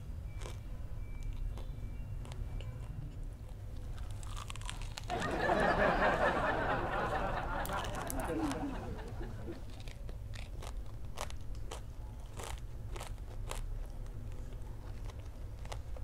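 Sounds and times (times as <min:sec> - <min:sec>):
crunchy chewing: 0:00.0 - 0:05.6, 0:07.1 - 0:16.0.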